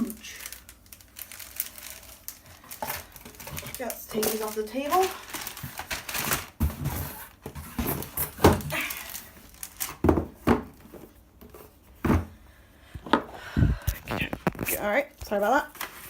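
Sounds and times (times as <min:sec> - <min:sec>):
paper and cardboard rustling: 0:00.0 - 0:12.4, 0:14.1 - 0:16.0.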